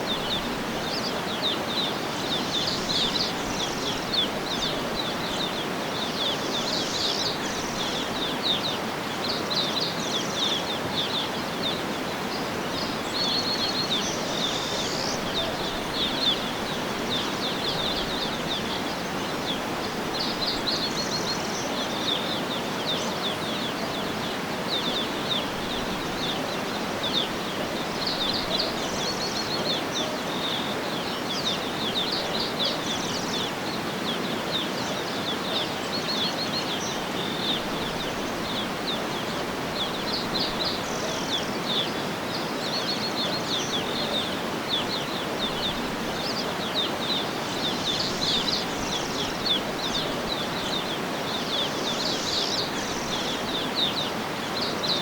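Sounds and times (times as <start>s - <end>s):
background noise: 0.0s - 55.0s
small birds chirping and trilling: 0.0s - 55.0s.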